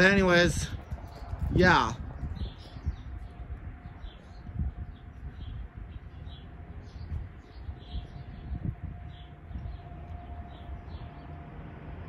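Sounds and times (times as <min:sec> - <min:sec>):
highway traffic rumble: 0:00.0 - 0:12.0.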